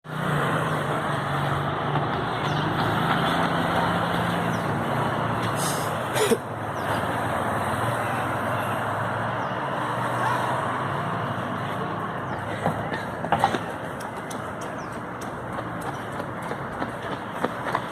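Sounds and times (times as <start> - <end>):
street noise: 0.0 - 17.9.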